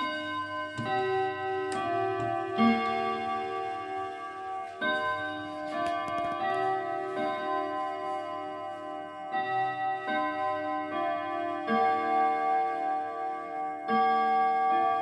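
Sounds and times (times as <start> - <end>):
chime clock melody: 0.0 - 15.0.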